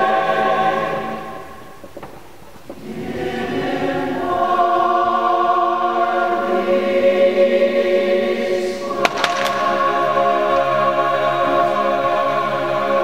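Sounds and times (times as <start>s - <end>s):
mixed choir singing in harmony: 0.0s - 1.8s, 2.7s - 13.0s.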